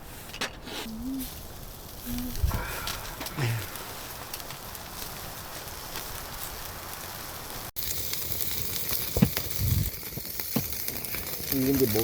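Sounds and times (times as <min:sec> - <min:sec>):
meat sizzling on a grill: 0:01.2 - 0:12.0.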